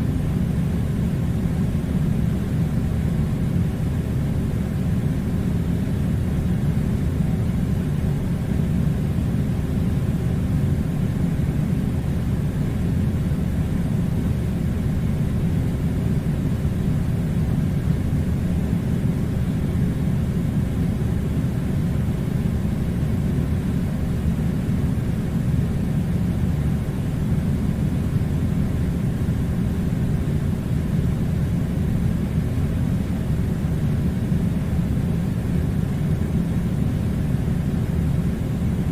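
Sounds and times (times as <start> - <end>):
air conditioner rumbling: 0.0 - 38.9.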